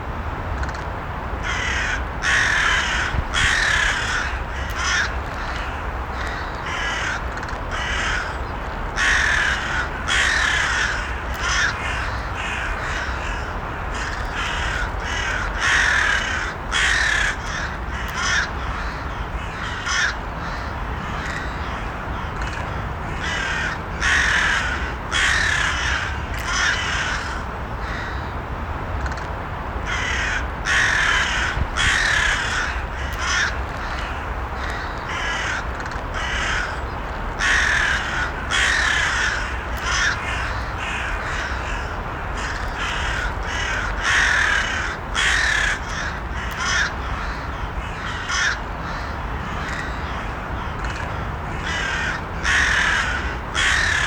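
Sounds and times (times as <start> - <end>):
crows cawing: 1.4 - 28.3, 29.9 - 54.0.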